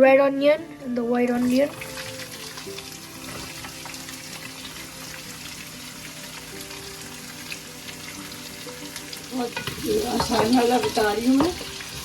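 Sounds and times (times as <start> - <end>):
onions sizzling in hot oil: 0.8 - 12.0.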